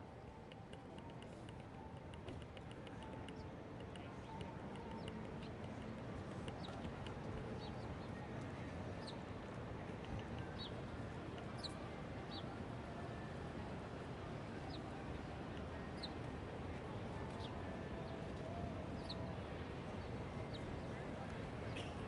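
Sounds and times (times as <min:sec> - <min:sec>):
faint city background noise: 0:00.0 - 0:22.0.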